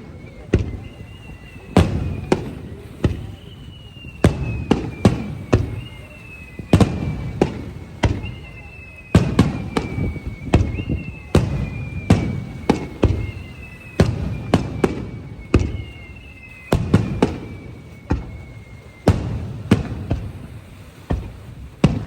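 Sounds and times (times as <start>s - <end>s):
fireworks bangs with rumble: 0.0s - 22.0s
high descending firework whistle: 0.0s - 22.0s.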